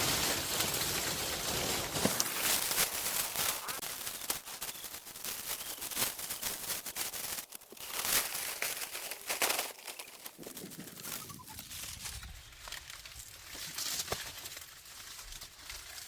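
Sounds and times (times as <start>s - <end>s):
dry palm leaves rustling and tearing: 0.0s - 16.0s.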